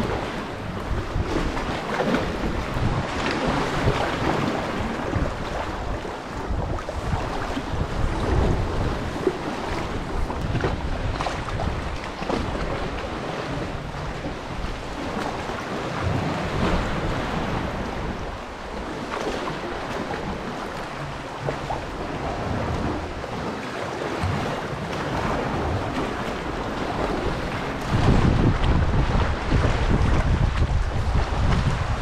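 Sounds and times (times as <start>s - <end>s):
paddle blades splashing: 0.0s - 32.0s
sea water sloshing against rock: 0.0s - 32.0s
wind buffeting microphone: 0.0s - 32.0s.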